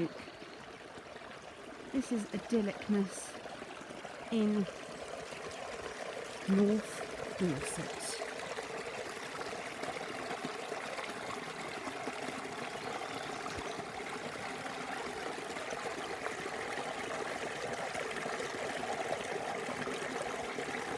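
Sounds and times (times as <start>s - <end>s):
stream babbling over rocks: 0.0s - 20.9s.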